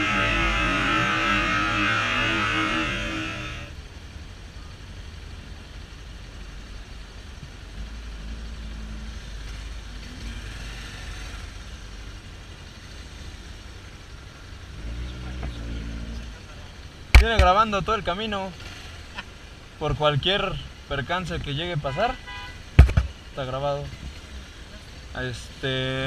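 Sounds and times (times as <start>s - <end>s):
engines idling in traffic: 0.0s - 26.0s.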